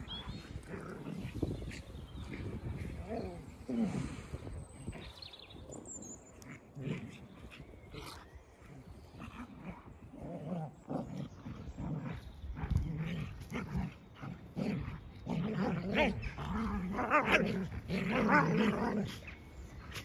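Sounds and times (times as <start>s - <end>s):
dogs growling in play: 0.0s - 20.0s.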